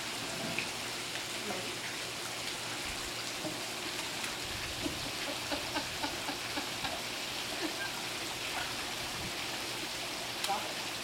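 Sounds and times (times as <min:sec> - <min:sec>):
water jets splashing into pool: 0:00.0 - 0:11.0.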